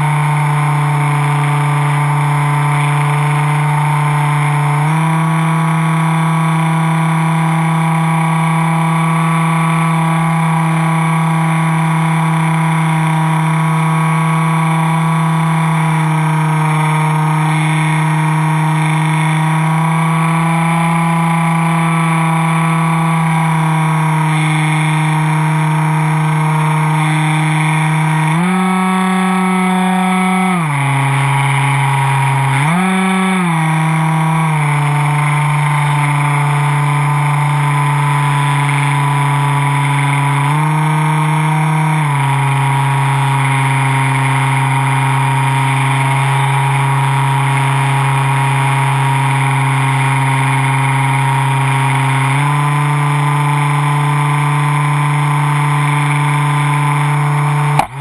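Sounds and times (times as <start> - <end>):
electric motor and propeller hum: 0.0 - 58.0.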